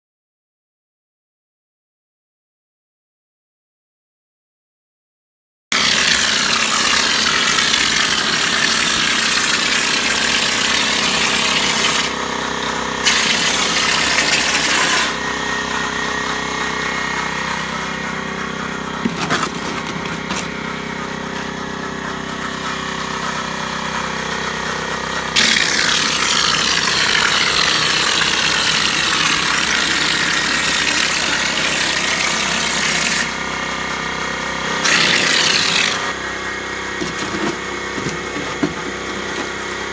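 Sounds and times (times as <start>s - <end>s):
air compressor motor running: 5.7s - 39.9s.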